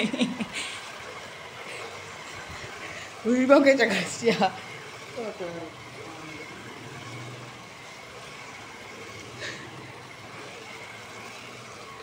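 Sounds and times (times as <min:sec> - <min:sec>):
toy truck electric motor whine: 0:00.0 - 0:12.0
tyres rolling on concrete: 0:00.0 - 0:12.0.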